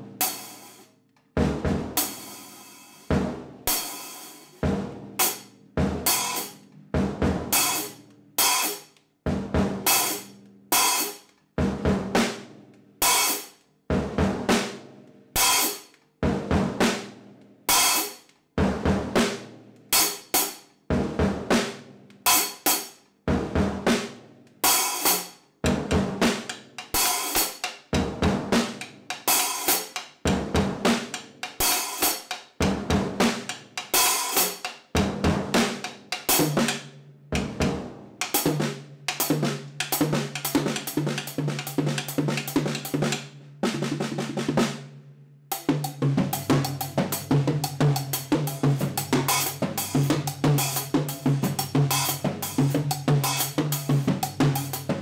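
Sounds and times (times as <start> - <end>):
drum kit groove: 0.0 - 55.0.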